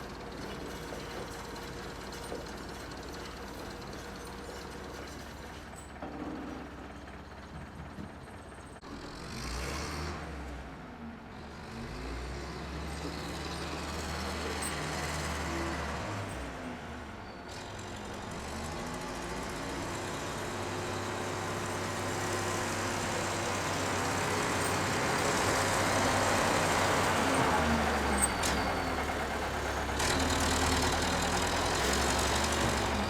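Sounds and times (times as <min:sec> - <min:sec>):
diesel tractor engine running: 0:00.0 - 0:33.0.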